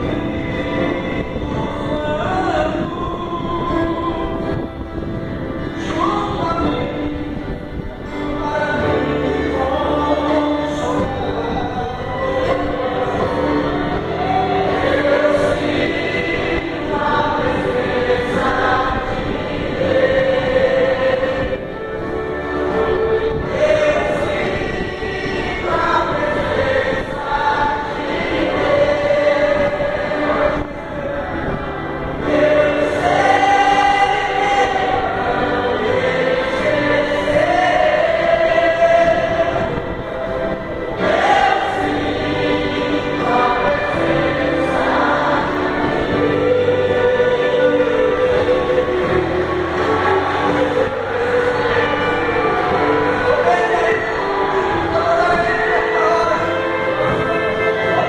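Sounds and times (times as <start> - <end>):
man singing hymn over loudspeakers: 0.0 - 58.0.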